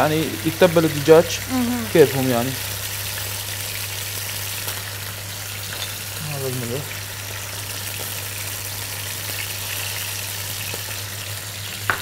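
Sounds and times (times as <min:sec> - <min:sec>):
chicken frying in a pan: 0:00.0 - 0:12.0.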